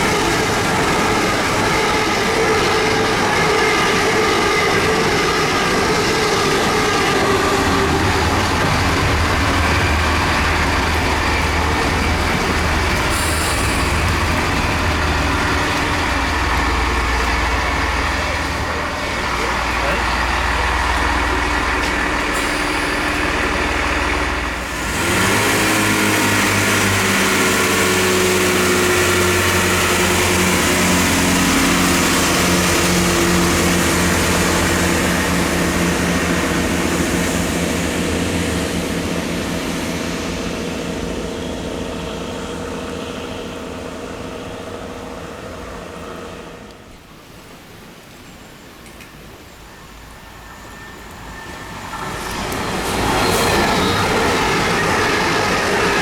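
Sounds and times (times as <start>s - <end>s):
diesel train engines running: 0.0s - 56.0s.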